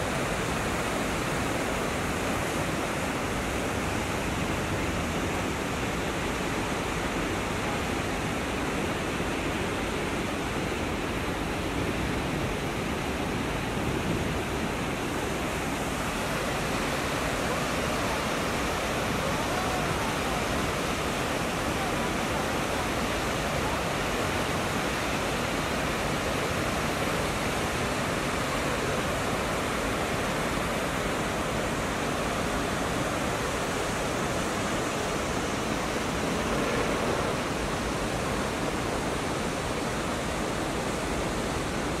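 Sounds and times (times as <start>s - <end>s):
water rushing over boulders: 0.0s - 42.0s.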